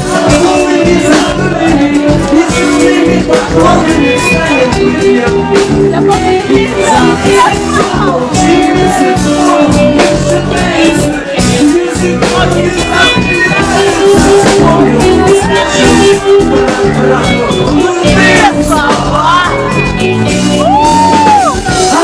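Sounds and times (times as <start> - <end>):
band with steady drum beat: 0.0 - 22.0
person singing: 0.0 - 22.0.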